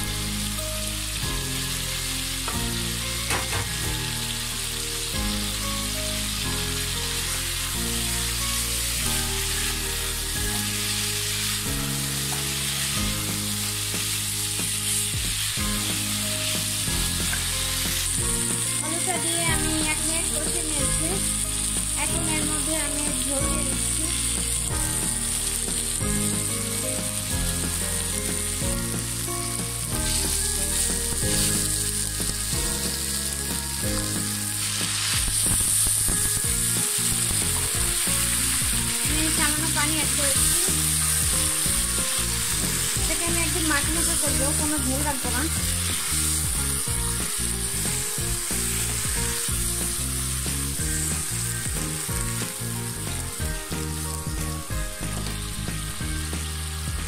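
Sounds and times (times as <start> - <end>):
fish and potato frying in oil: 0.0 - 57.0.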